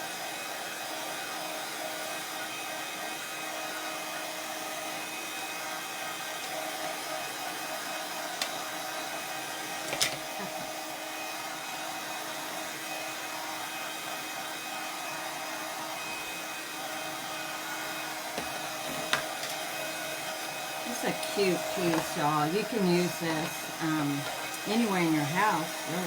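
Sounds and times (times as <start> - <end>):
hot-air dryer blowing: 0.0 - 26.0.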